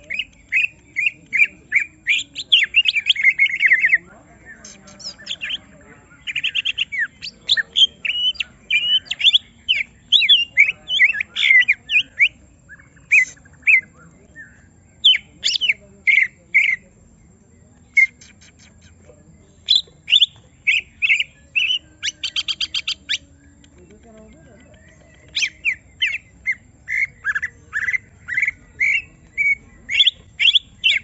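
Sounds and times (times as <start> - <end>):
bird singing whistled notes: 0.0 - 31.0.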